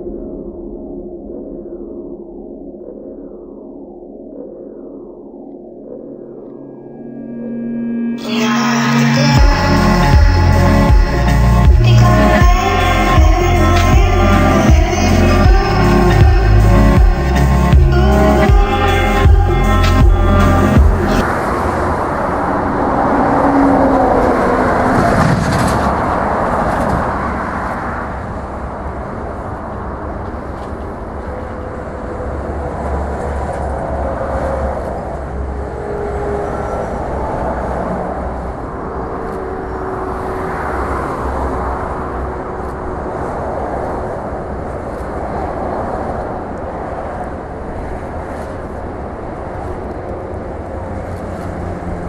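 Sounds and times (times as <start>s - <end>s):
vehicle rumbling in motion: 6.2s - 52.0s.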